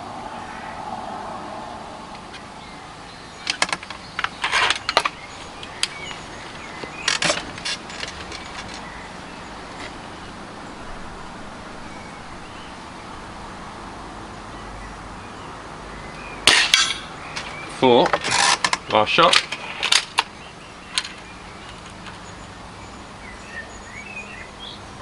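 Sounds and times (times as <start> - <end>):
outdoor background hum: 0.0 - 25.0.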